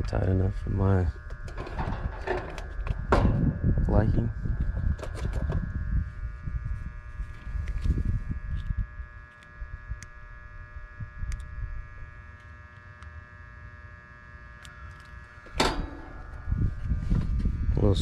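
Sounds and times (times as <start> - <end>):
low rumbling noise: 0.0 - 12.2, 15.2 - 18.0
buzzing hum: 0.0 - 18.0.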